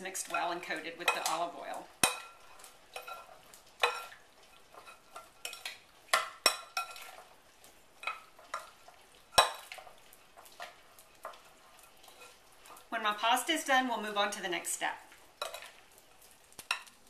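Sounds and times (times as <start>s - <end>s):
wet stirring: 0.0s - 14.4s, 15.0s - 17.0s.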